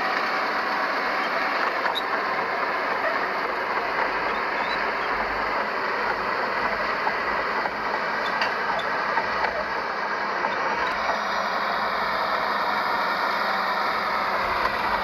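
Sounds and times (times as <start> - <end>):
heavy earthmoving machinery running: 0.0 - 15.0.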